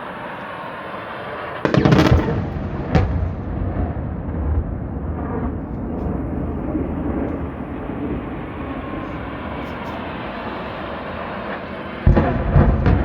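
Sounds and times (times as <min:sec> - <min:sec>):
faint falling whine: 0:00.0 - 0:12.0
aircraft engine drone: 0:00.0 - 0:13.0
loud low boom: 0:01.6 - 0:13.0.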